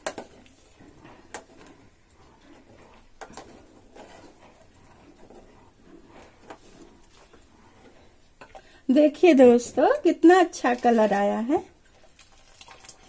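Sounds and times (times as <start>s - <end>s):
spoon stirring milk in a pot: 0.0s - 13.0s.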